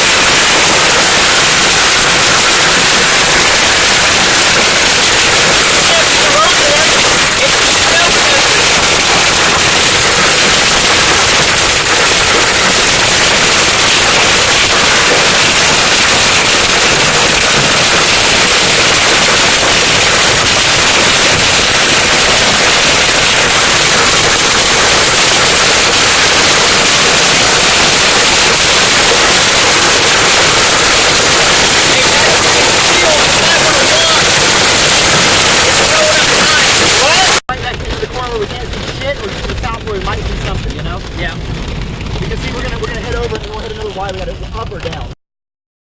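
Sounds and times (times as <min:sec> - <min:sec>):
hail pelting a car: 0:00.0 - 0:45.2.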